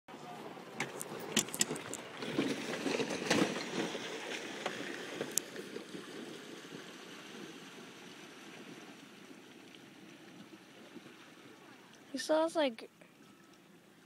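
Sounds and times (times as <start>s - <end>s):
water splashing and churning: 0.1s - 14.0s.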